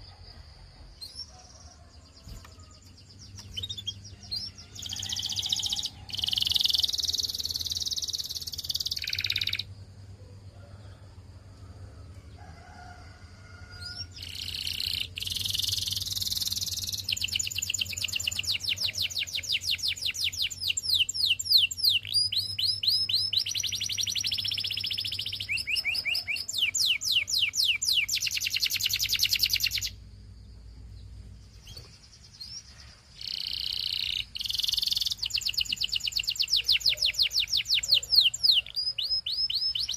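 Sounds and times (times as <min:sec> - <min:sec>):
faint low hum: 0:00.0 - 0:39.9
canary singing trills: 0:00.9 - 0:09.7, 0:13.7 - 0:30.2, 0:31.0 - 0:39.9.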